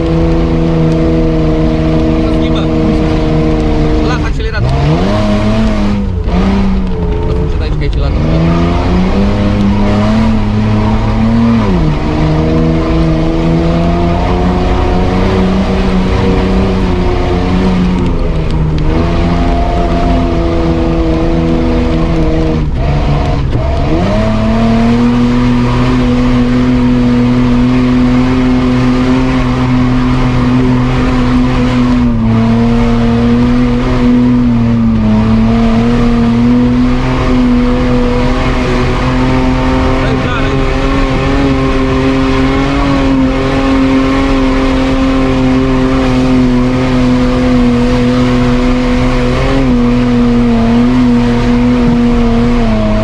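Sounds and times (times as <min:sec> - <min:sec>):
engine revving under load: 0:00.0 - 0:53.0.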